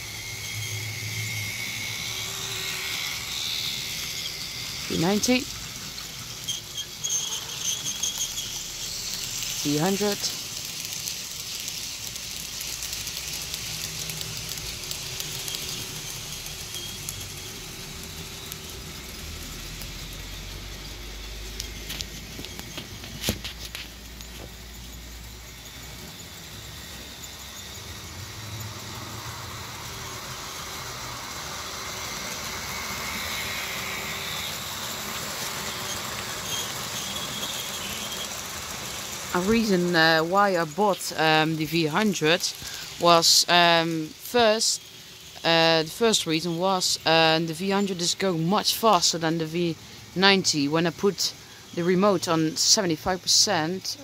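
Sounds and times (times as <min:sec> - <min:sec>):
model train motor hum: 0:00.0 - 0:54.0.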